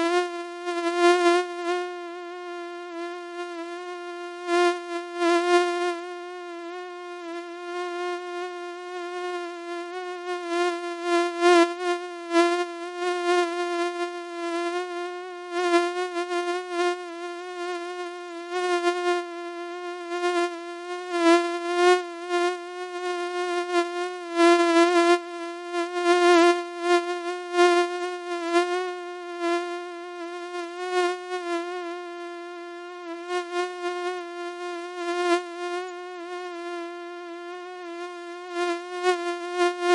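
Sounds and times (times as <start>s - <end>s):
mosquito wings buzzing: 0.0s - 39.9s.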